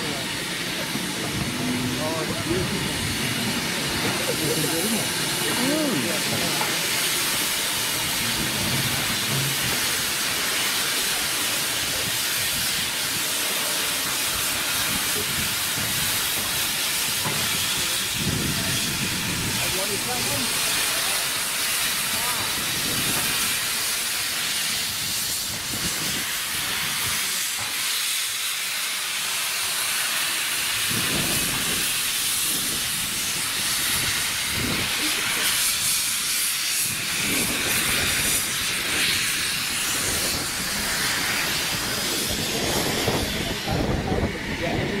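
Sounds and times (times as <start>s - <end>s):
low irregular locomotive beats: 0.0s - 45.0s
steam hissing: 0.0s - 45.0s.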